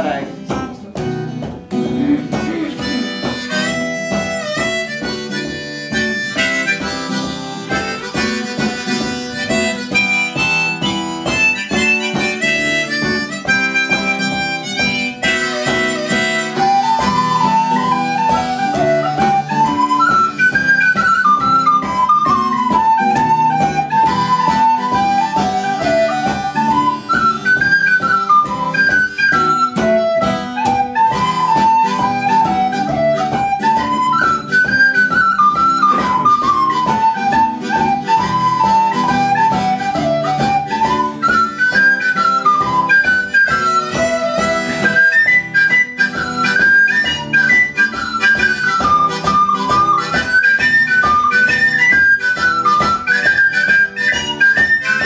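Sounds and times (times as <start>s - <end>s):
acoustic guitar strumming: 0.0s - 55.0s
harmonica playing chords: 1.7s - 55.0s
high wind instrument melody: 2.0s - 55.0s.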